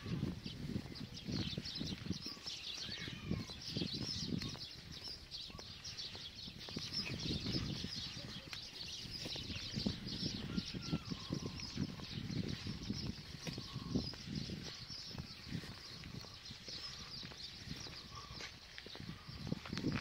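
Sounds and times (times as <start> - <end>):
footsteps on dirt path: 0.0 - 20.0
small birds chirping: 0.0 - 20.0.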